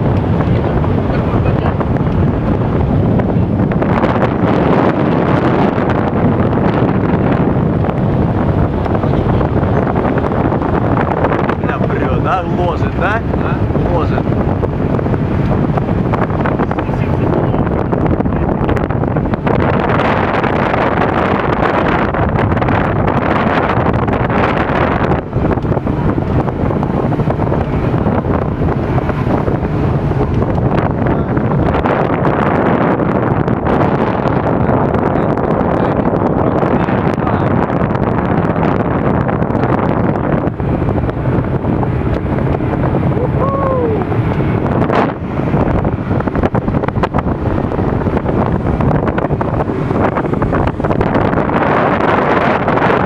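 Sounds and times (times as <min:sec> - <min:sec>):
boat engine: 0:00.0 - 0:53.0
water rushing past hull: 0:00.0 - 0:53.0
wind buffeting microphone: 0:00.0 - 0:53.0.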